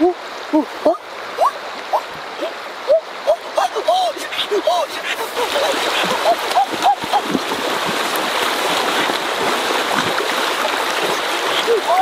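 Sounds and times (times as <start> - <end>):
river current rushing: 0.0 - 12.0
splashing in river water: 0.0 - 12.0.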